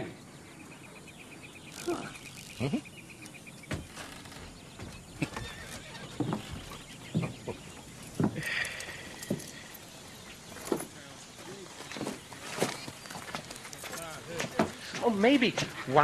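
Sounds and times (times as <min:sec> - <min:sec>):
horses snorting: 0:01.5 - 0:16.0
hooves shifting on dirt: 0:01.8 - 0:16.0.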